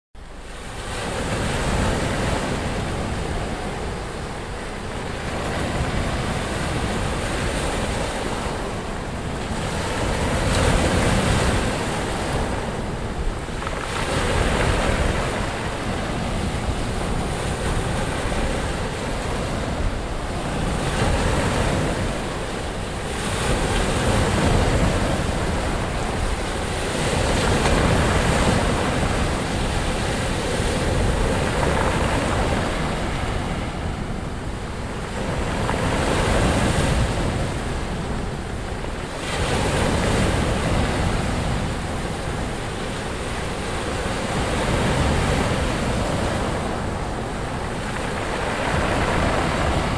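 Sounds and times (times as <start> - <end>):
surf breaking on shore: 0.6 - 49.9.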